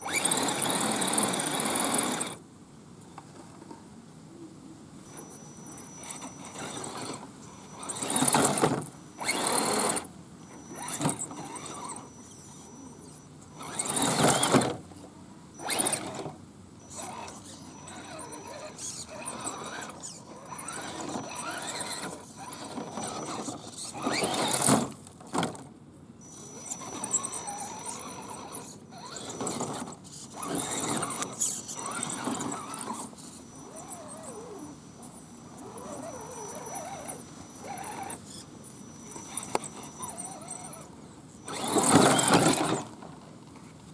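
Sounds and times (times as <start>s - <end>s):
toy truck motor whirring: 0.0s - 2.4s, 5.0s - 14.9s, 15.5s - 43.2s
faint high whine: 0.0s - 24.7s, 26.1s - 42.9s.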